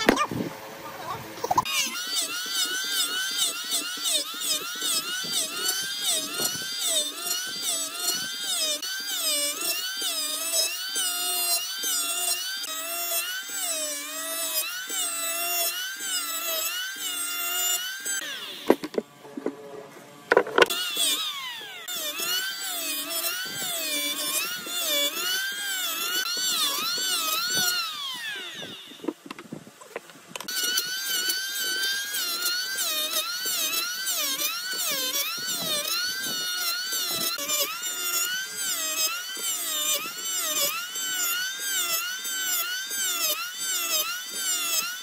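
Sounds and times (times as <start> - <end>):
electric hand planer shaving wood: 0.0 - 45.0.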